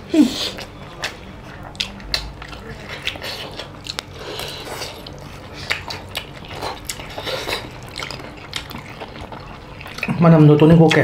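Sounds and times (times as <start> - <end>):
chewing: 0.3 - 11.0.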